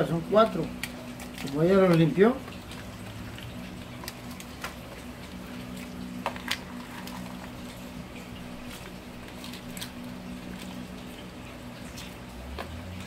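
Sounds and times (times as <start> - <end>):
pot bubbling: 0.0 - 13.0
steady low hum: 0.0 - 13.0.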